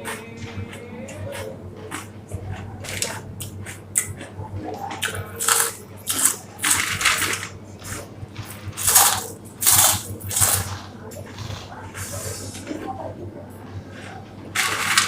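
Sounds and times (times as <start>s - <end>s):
crunchy snack being chewed: 0.1s - 12.4s.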